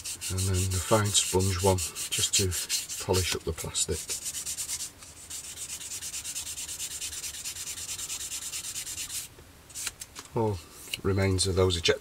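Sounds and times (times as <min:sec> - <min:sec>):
sanding stick rubbing on plastic: 0:00.0 - 0:09.9.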